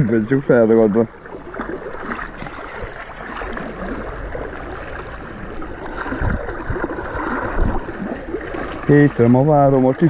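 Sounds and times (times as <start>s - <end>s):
river water splashing: 0.0s - 10.0s.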